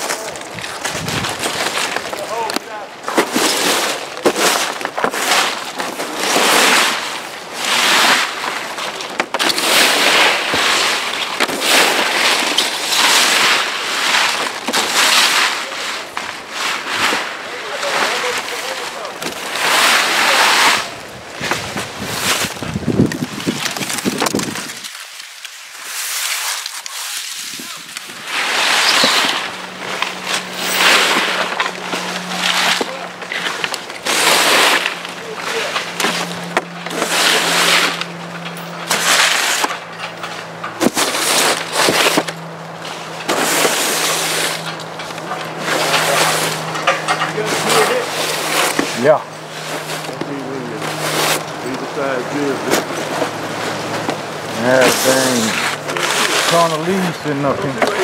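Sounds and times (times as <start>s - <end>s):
broom sweeping dry leaves: 0.0s - 58.0s.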